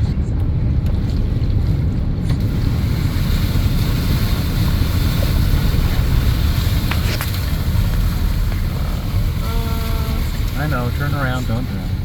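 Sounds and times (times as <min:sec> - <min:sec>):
vehicle engine low rumble: 0:00.0 - 0:12.0
water churning and splashing: 0:01.0 - 0:12.0.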